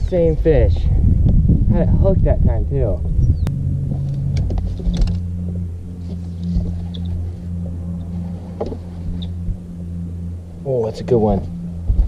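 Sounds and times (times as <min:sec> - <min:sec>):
electric trolling motor humming: 0:00.0 - 0:12.0.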